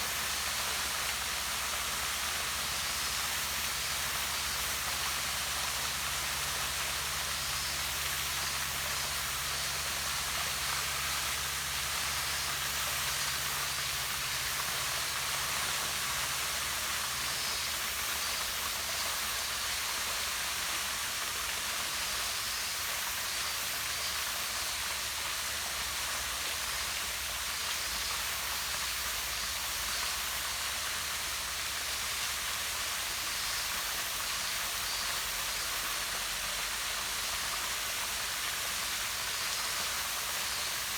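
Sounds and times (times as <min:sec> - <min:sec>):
waterfall rushing into pond: 0:00.0 - 0:40.9.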